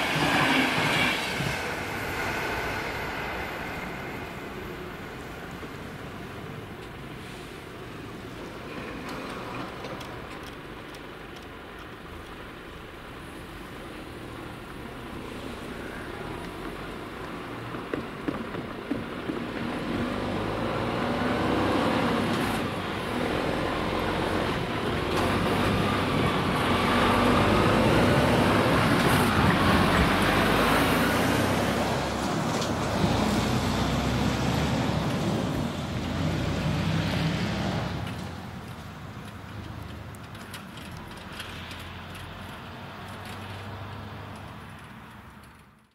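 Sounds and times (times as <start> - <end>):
truck diesel engine: 0.0 - 45.9
truck tyres on road: 0.0 - 45.9.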